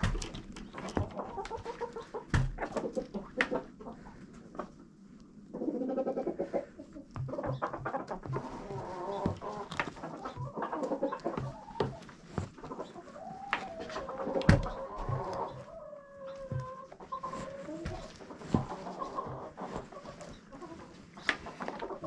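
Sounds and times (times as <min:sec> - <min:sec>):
knocks and scrapes: 0:00.0 - 0:03.6, 0:07.1 - 0:15.7, 0:16.4 - 0:22.0
chickens clucking: 0:00.0 - 0:04.8, 0:05.4 - 0:22.0.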